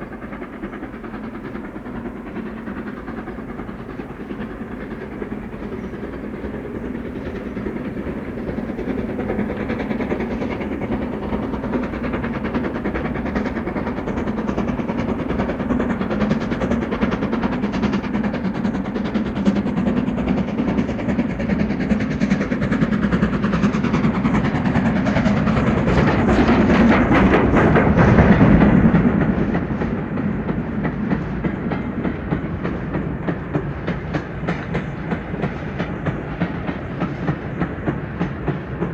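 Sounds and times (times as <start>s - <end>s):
steam train passing: 0.0s - 38.9s
wheels clicking over rail joints: 0.0s - 38.9s.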